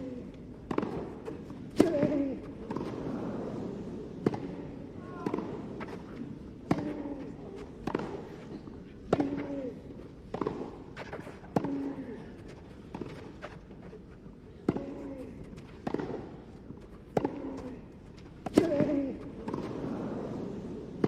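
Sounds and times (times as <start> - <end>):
racket hitting tennis ball: 0.6 - 3.6, 4.2 - 13.9, 14.6 - 19.9.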